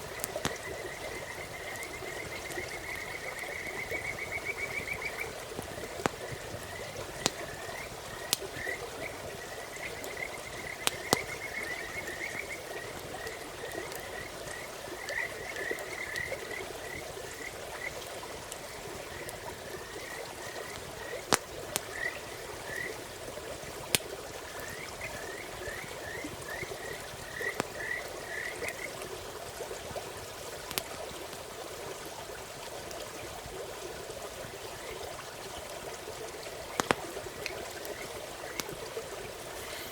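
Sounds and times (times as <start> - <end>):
frogs chirping: 0.0 - 29.2, 34.4 - 35.4, 36.2 - 39.9
campfire crackle: 0.0 - 39.9
rushing stream: 0.0 - 39.9.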